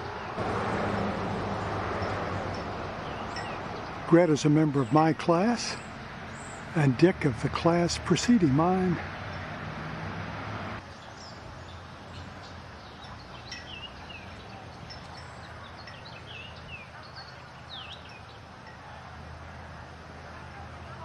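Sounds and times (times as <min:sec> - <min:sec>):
small birds chirping: 0:00.0 - 0:10.0, 0:10.7 - 0:18.8
outdoor background noise: 0:00.0 - 0:21.0.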